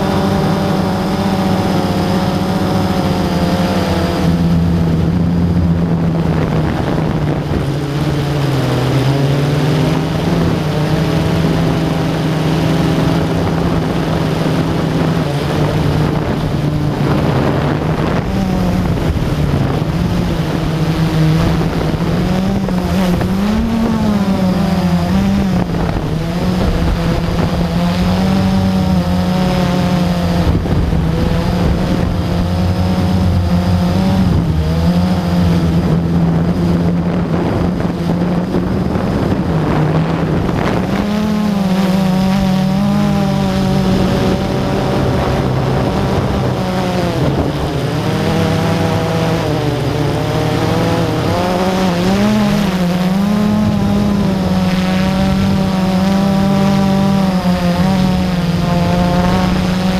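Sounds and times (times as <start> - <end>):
drone propellers whining: 0.0 - 59.9
wind noise on microphone: 0.0 - 59.9.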